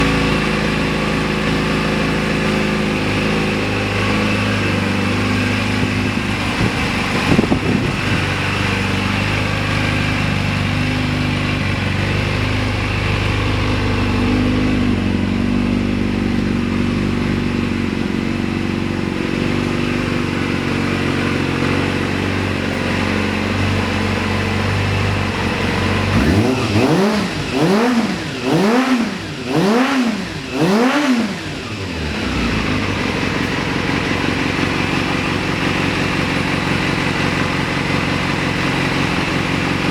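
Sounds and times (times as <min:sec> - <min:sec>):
engine throttle blips: 0:00.0 - 0:39.9
motorcycle engine idling: 0:00.0 - 0:39.9.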